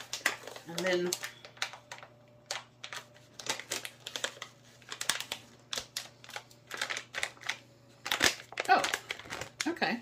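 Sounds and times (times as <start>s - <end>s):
plastic pouch crinkling: 0.0s - 10.0s.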